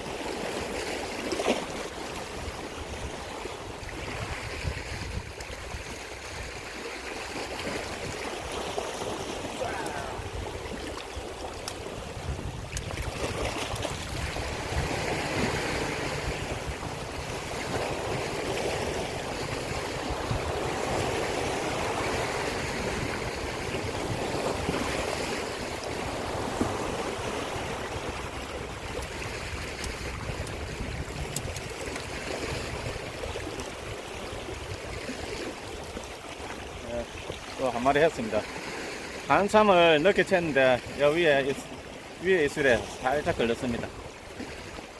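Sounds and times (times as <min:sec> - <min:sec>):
sea waves on rocky shore: 0:00.0 - 0:44.9.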